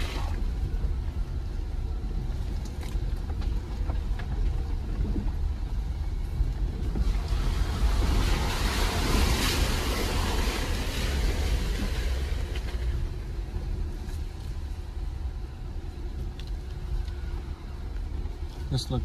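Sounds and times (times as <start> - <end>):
tyres on dirt trail: 0.0 - 19.0
vehicle engine rumble: 0.0 - 19.0.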